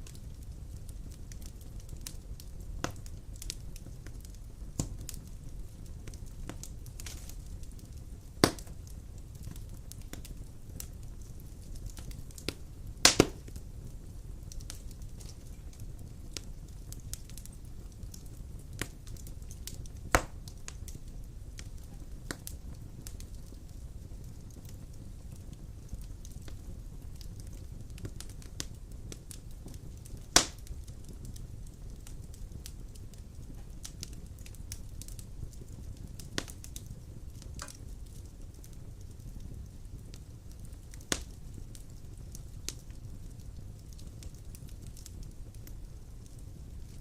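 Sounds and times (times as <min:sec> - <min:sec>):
fire crackling and popping: 0:00.0 - 0:47.0
fire rumbling: 0:00.0 - 0:47.0.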